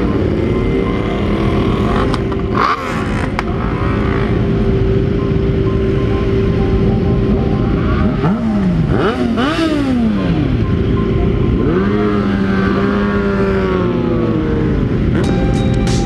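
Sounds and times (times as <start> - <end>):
constant low rumble: 0.0 - 16.0
motorcycle engines revving: 0.0 - 16.0.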